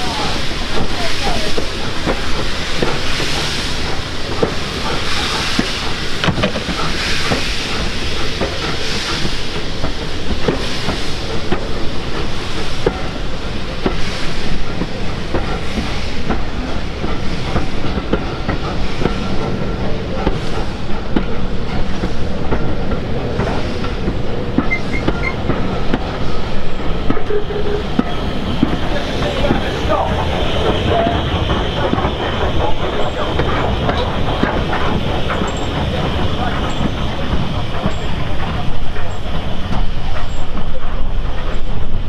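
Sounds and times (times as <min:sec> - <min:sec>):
wheels clicking over rail joints: 0:00.0 - 0:41.9
steam locomotive exhaust hissing: 0:00.0 - 0:42.0.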